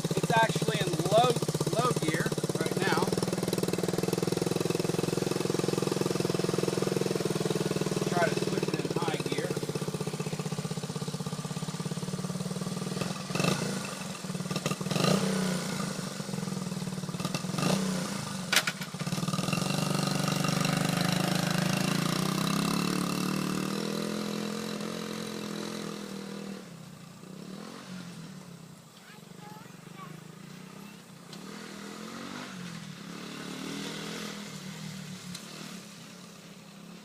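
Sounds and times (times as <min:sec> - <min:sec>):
small motorcycle engine running: 0:00.0 - 0:37.0.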